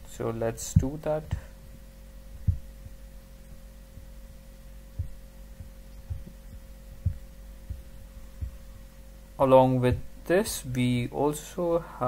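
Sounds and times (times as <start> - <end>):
soft low thumps: 0.0 - 10.6
electrical hum: 0.0 - 12.0
faint steady tone: 0.0 - 12.0.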